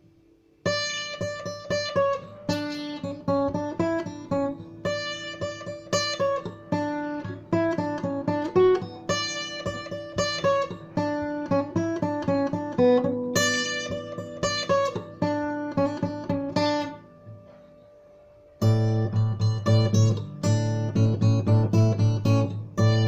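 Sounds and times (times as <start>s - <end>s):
guitar picking arpeggios: 0.6s - 17.5s, 18.3s - 23.0s.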